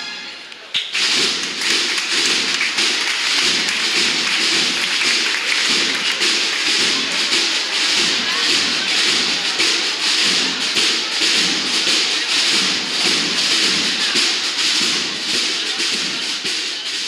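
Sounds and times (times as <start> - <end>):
marching snare and bass drums: 1.0 - 17.0.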